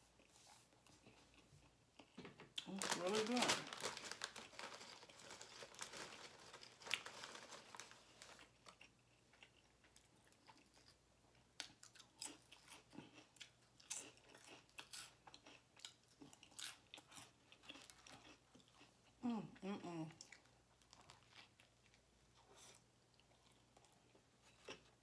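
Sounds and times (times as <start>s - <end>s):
close-up chewing with crunches: 4.0s - 19.2s, 20.1s - 25.0s.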